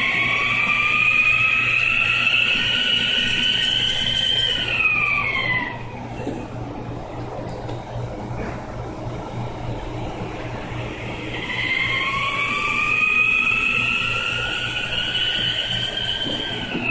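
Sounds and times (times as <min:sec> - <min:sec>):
washing machine whine: 0:00.0 - 0:16.9.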